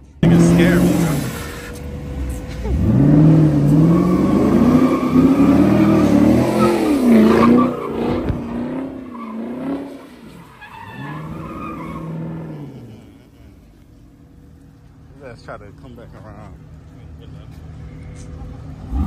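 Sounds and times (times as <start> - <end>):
car engine revving: 0.0 - 19.0
tyres skidding: 0.0 - 19.0.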